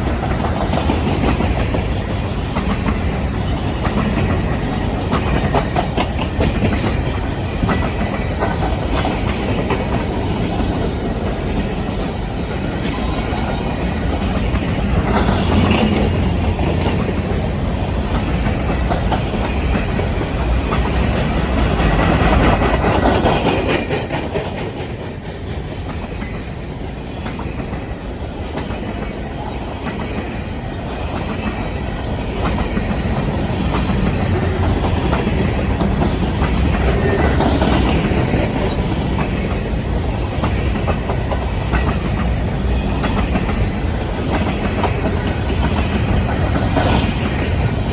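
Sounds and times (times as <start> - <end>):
train wheels clicking over rail joints: 0.0 - 47.9.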